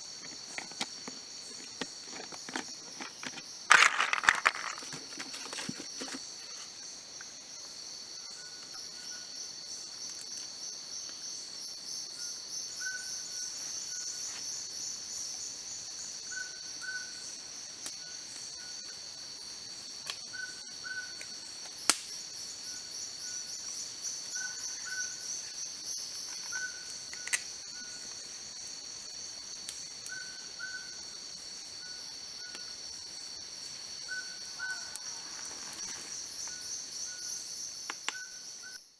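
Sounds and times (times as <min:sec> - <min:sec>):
forest insects chorus: 0:00.0 - 0:38.9.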